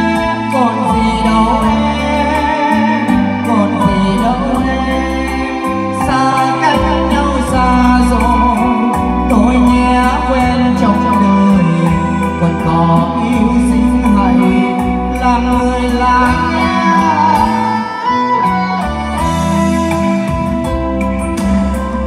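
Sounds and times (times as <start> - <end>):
backing track with bass and guitar: 0.0 - 22.0
person singing into microphone: 0.0 - 22.0.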